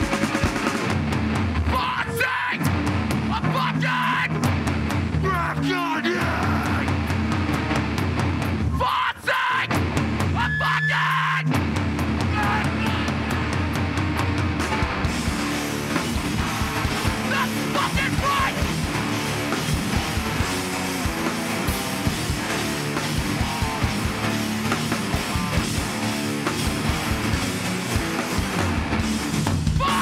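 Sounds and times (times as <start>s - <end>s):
live hardcore band playing: 0.0s - 30.0s.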